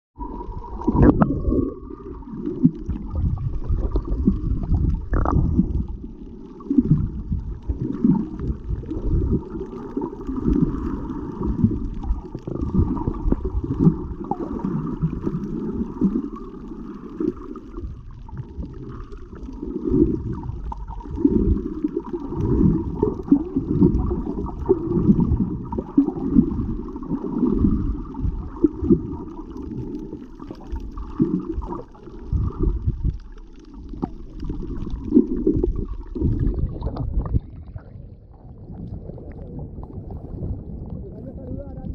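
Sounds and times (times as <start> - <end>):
muffled underwater rumbling: 0.2 - 41.9.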